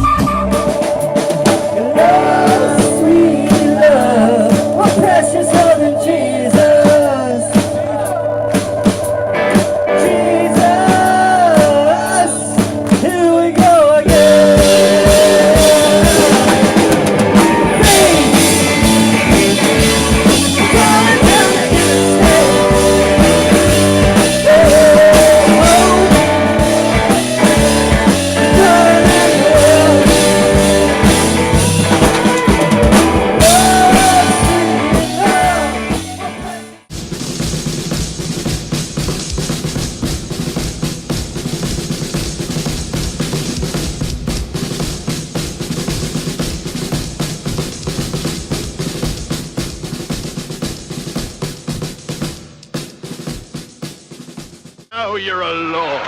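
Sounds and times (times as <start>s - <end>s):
drum kit beat: 0.0s - 56.0s
rock band music: 0.0s - 56.0s.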